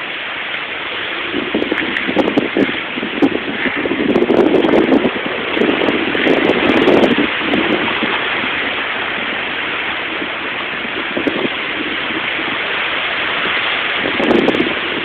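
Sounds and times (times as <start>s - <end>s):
heavy rain and wind: 0.0s - 15.0s.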